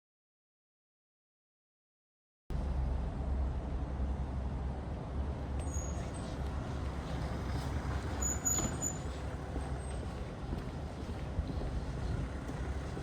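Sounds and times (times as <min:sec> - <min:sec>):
low street rumble: 0:02.5 - 0:13.0.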